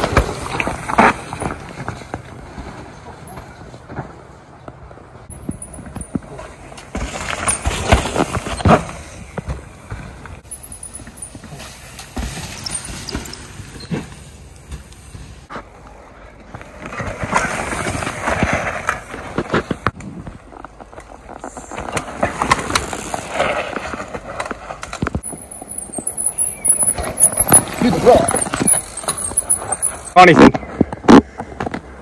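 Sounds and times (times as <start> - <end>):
bike rattles and knocks: 0.0 - 15.7, 16.4 - 32.0
bike tyres over mud and roots: 0.0 - 32.0.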